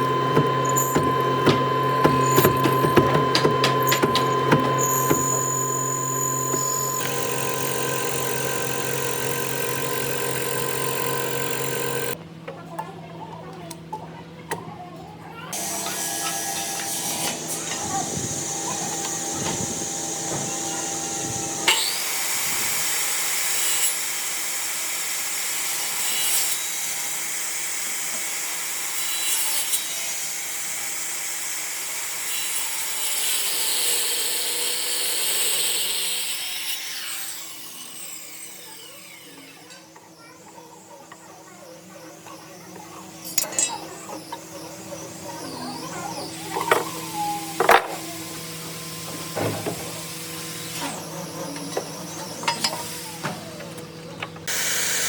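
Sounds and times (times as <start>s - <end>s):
power tool machine hum: 0.0s - 12.2s, 15.5s - 55.0s.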